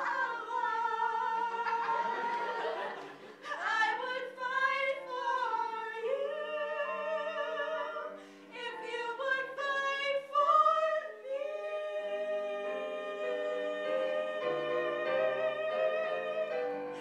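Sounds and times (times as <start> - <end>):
women singing with vibrato: 0.0 - 17.0.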